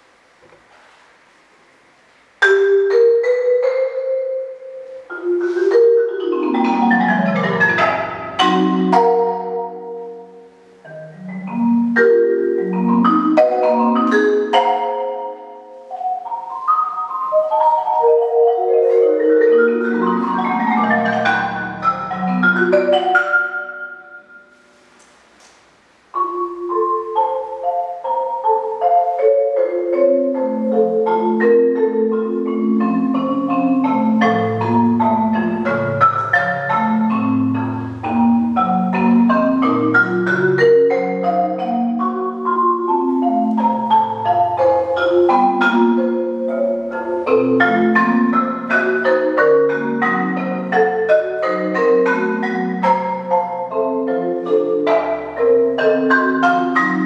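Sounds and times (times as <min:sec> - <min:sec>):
solo marimba playing: 0:02.4 - 0:24.8, 0:26.1 - 0:57.0.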